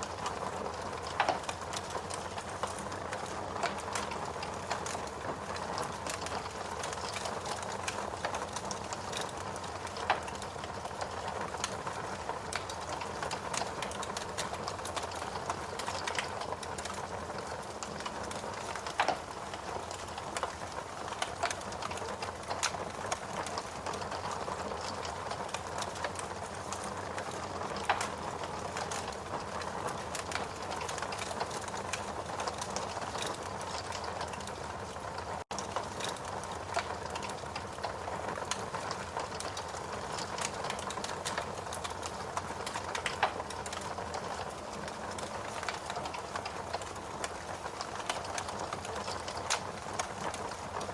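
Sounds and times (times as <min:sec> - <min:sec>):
steady rain: 0:00.0 - 0:50.9
wood crackling in fireplace: 0:00.0 - 0:50.9.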